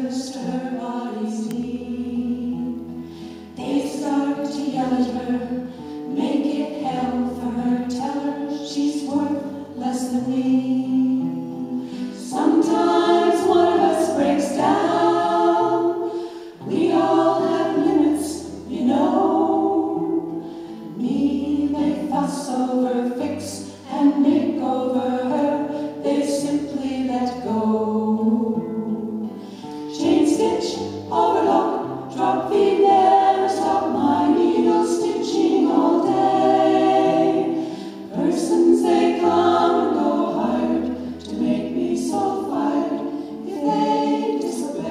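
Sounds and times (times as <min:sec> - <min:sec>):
women singing in harmony: 0:00.0 - 0:44.9.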